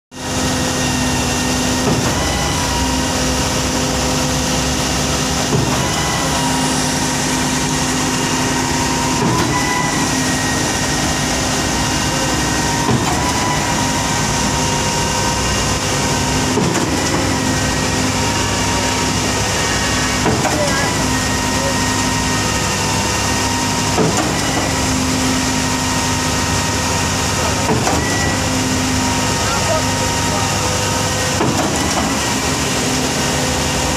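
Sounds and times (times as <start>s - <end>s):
heavy machinery engine hum: 0.2s - 33.9s.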